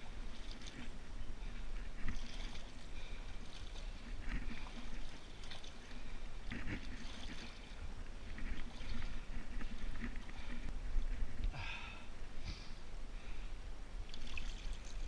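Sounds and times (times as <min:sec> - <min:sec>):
low steady rumble: 0:00.0 - 0:15.0
water splashing and sloshing: 0:00.0 - 0:15.0.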